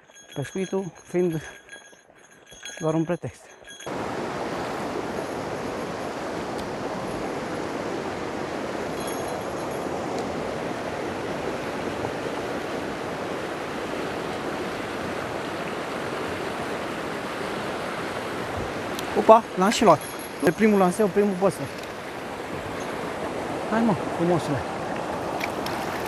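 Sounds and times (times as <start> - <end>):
river rushing over rocks: 3.7 - 26.0.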